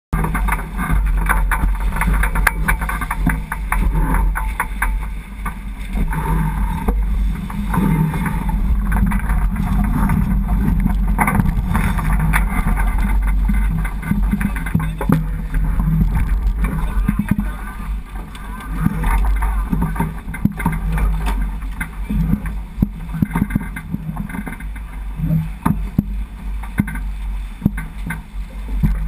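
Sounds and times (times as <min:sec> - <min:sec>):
ticks and knocks: 0:00.2 - 0:25.0, 0:25.6 - 0:29.0
water rushing along hull: 0:00.2 - 0:29.0
wind buffeting microphone: 0:00.2 - 0:29.0.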